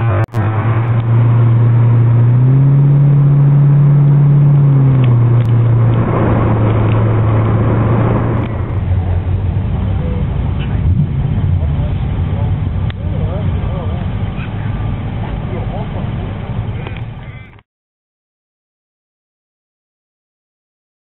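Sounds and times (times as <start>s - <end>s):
car engine and exhaust running: 0.0s - 17.6s.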